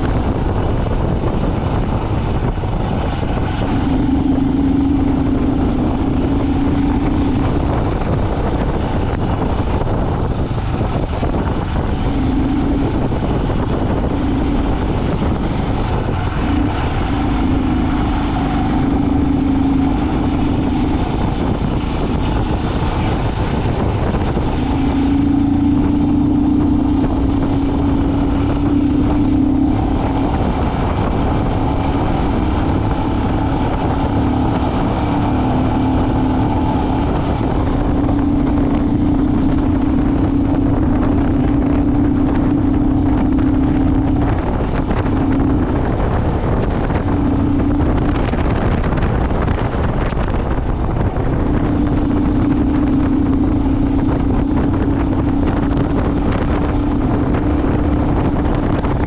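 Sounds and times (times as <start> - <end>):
droning hum: 0.0 - 59.0
vehicle engine and road rumble: 0.0 - 59.0.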